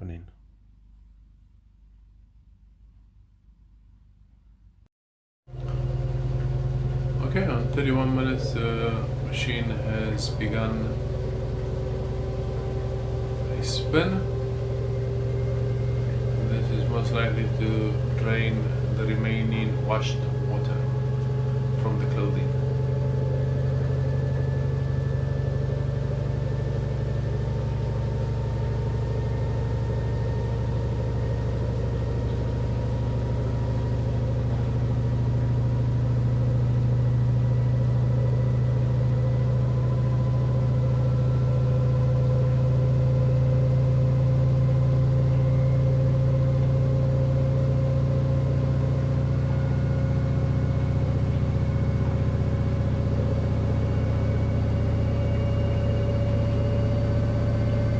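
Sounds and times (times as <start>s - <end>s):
washing machine spin hum and whine: 5.5s - 57.9s.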